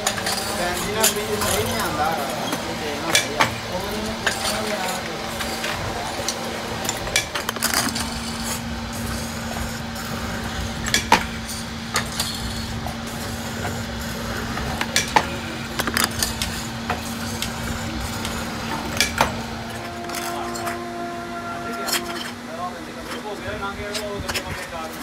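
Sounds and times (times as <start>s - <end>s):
electric motor humming: 0.0s - 23.8s.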